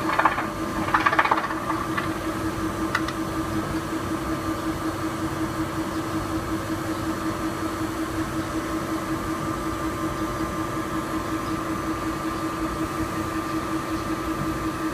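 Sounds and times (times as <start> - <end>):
machinery humming: 0.0 - 14.9.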